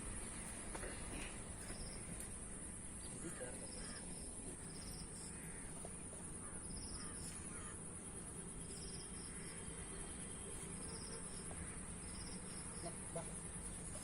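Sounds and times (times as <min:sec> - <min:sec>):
insects chirping: 0:00.0 - 0:14.0
faint bird calls: 0:00.7 - 0:14.0.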